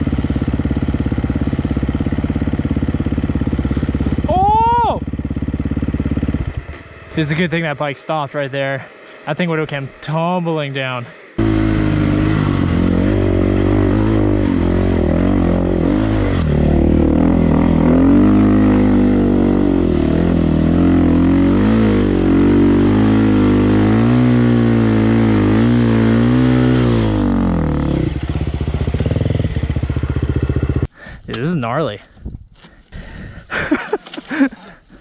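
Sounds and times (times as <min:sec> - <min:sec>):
dirt bike engine revving: 0:00.0 - 0:31.5.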